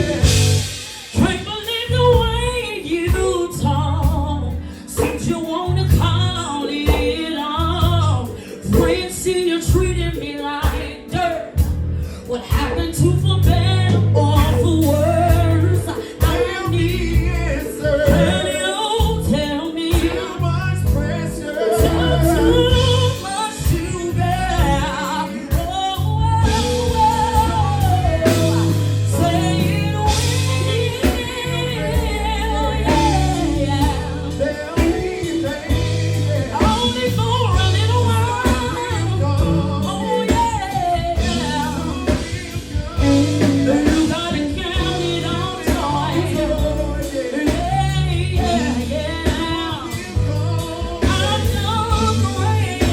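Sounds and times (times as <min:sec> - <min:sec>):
backing music with bass and drums: 0:00.0 - 0:52.9
woman singing soul ballad: 0:00.0 - 0:52.9.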